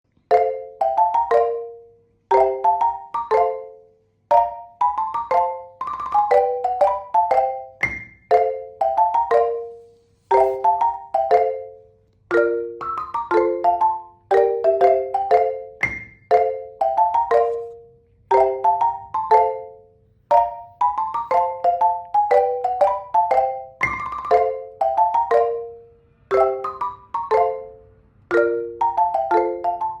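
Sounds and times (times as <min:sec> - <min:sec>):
mallet percussion tune: 0:00.3 - 0:30.0.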